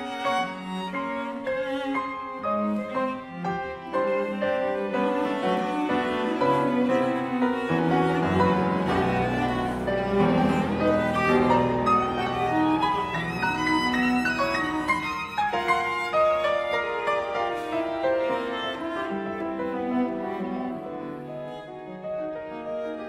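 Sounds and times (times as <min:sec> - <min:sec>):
piano trio playing: 0:00.0 - 0:23.0.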